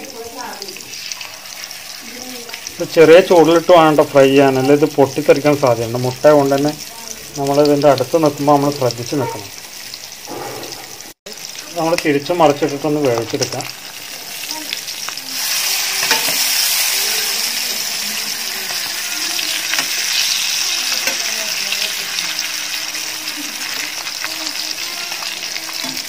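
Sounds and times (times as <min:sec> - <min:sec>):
eggs sizzling in hot oil: 0:00.0 - 0:26.0.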